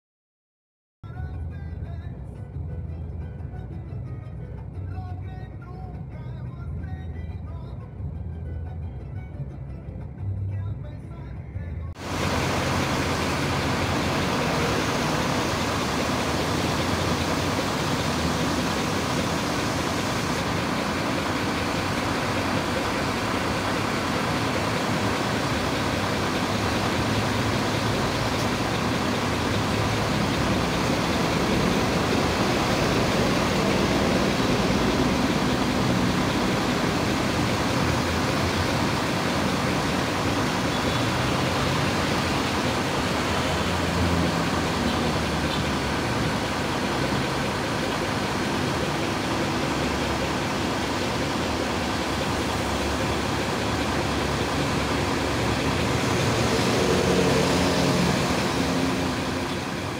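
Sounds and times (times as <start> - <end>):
diesel engine idling: 1.2 - 59.9.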